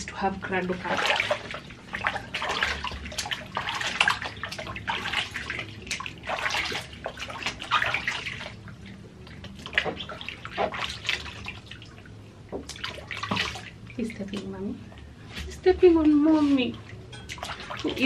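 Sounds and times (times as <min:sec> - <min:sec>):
bath water splashing: 0:00.0 - 0:18.0.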